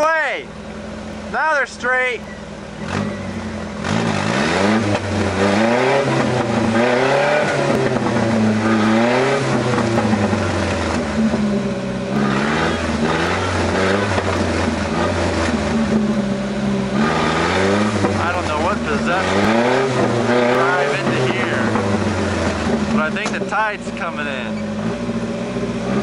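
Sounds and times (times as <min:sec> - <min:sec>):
pickup truck engine revving: 0:00.0 - 0:26.0.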